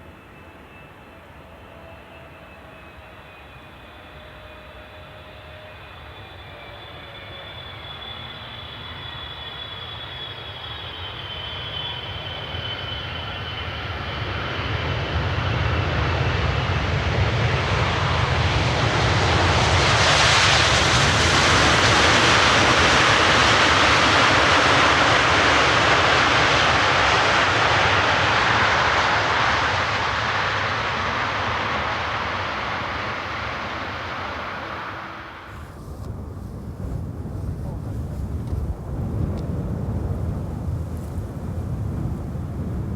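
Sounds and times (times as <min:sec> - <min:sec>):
high engine whine: 0:00.0 - 0:42.9
jet airliner passing: 0:00.0 - 0:42.9.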